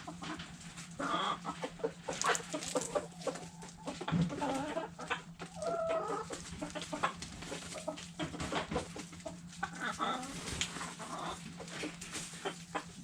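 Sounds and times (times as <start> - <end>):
hens clucking: 0.0 - 13.0
hens pecking taps: 0.1 - 13.0.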